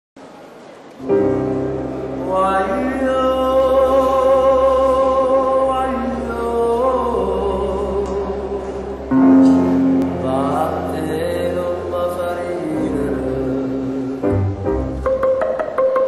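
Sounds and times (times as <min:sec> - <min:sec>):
song intro with sustained notes: 0:01.0 - 0:16.0.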